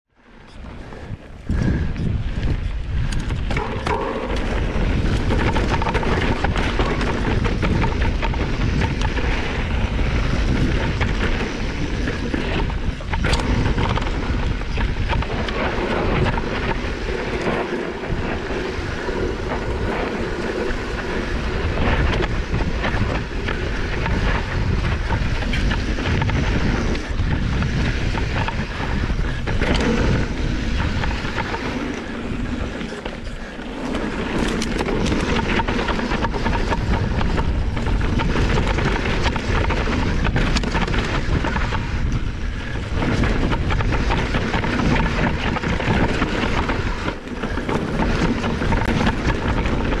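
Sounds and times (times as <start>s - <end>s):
wind rumbling on microphone: 0.1s - 50.0s
bike clattering over rough ground: 0.4s - 50.0s.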